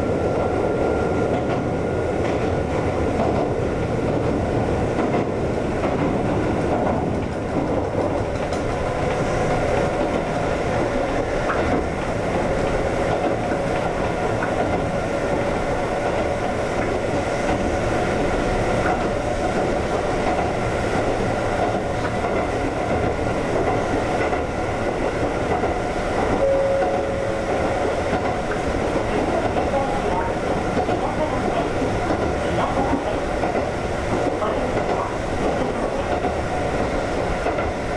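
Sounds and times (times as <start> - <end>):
clickety-clack of rail joints: 0.0 - 37.9
train wheels rumbling on rail: 0.0 - 37.9.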